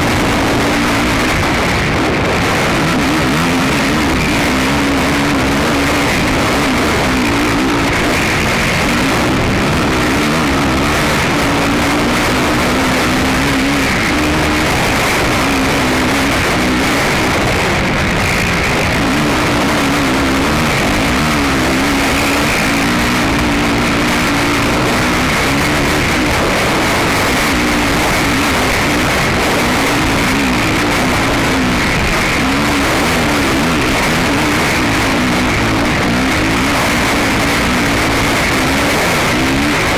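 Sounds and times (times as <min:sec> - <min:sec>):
quad engine revving: 0:00.0 - 0:39.9
wind noise on microphone: 0:00.0 - 0:39.9.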